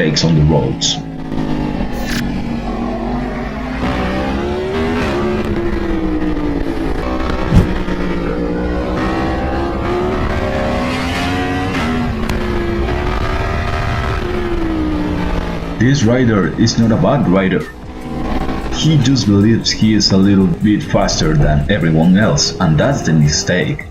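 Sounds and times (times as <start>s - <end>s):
motorcycle engine accelerating: 0.8s - 20.4s.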